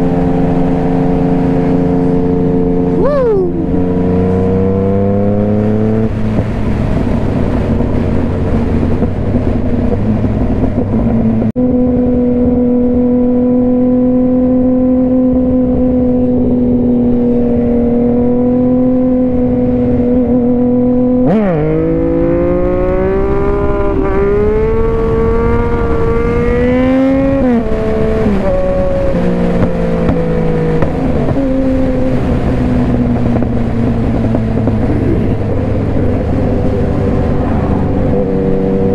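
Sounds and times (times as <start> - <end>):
motorcycle engine: 0.0 - 38.9
wind rush: 0.0 - 38.9.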